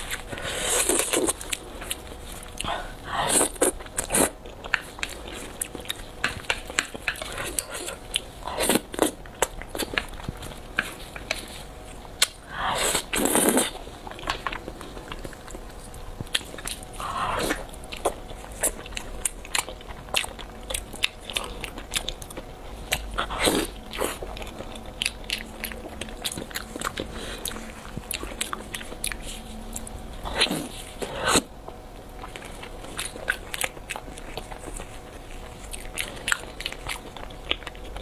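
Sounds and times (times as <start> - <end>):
close-up chewing: 0.0 - 38.0.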